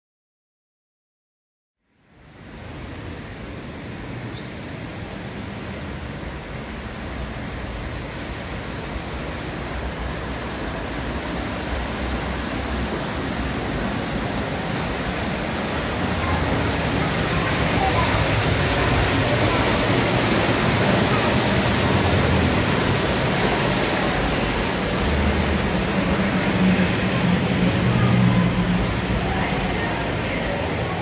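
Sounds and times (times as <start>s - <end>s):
steady rushing noise: 2.2s - 31.0s.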